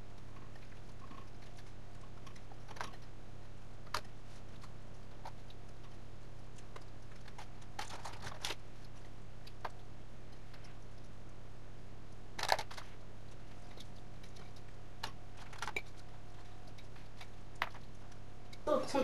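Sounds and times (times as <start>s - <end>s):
soft clicks and crackles: 0.0s - 18.7s
steady low hum: 0.0s - 19.0s.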